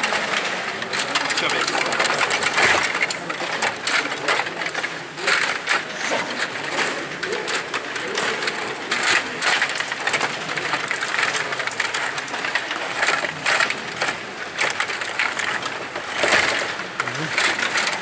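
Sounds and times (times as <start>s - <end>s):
table hockey rods clattering: 0.0s - 18.0s.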